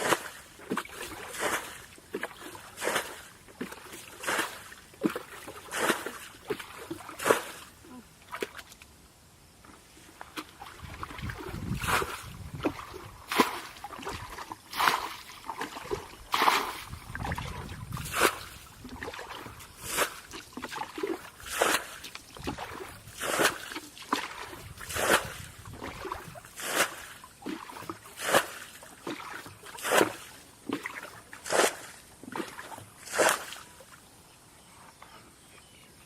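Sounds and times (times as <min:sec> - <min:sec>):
water splashing rhythmically: 0:00.0 - 0:09.0, 0:10.0 - 0:34.3
water trickling and sloshing: 0:00.0 - 0:09.0, 0:09.6 - 0:34.1.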